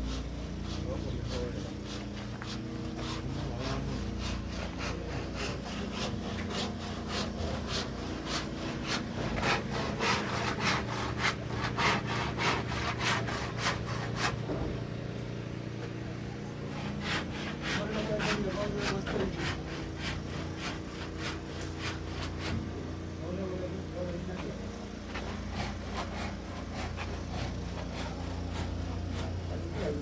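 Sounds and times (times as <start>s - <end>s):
hand saw cutting wood: 0.0s - 14.8s, 16.6s - 30.0s
steady low hum: 0.0s - 30.0s.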